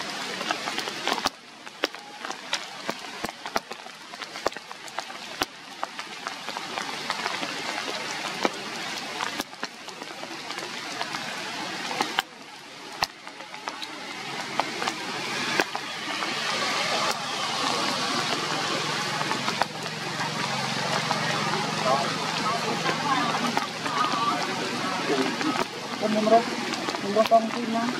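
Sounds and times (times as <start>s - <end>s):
rain on leaves: 0.0s - 27.9s.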